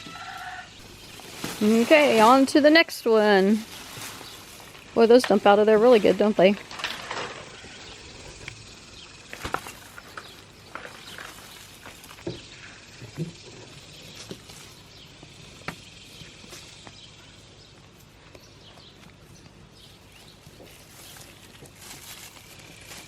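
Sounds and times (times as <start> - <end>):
hands rustling through soil: 0.2 - 23.0.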